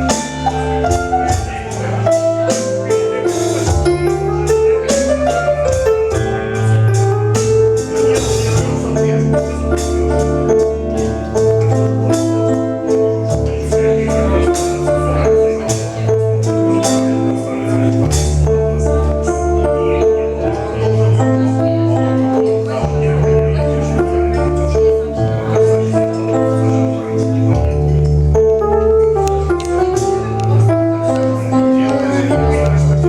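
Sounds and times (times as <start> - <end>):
music with bass and percussion: 0.0 - 33.0.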